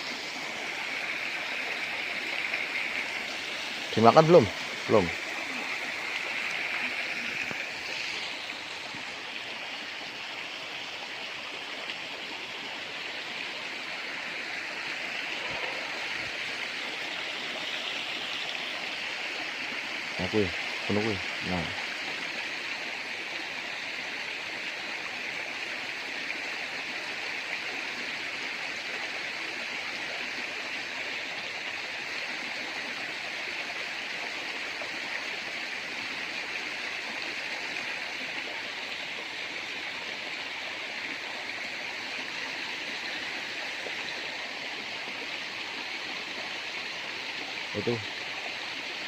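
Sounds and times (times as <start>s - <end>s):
river flowing: 0.0s - 49.0s.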